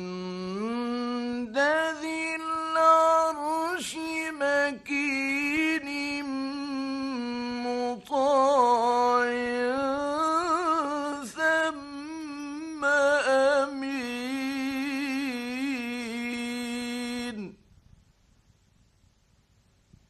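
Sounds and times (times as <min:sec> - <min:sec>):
man chanting recitation: 0:00.0 - 0:17.6.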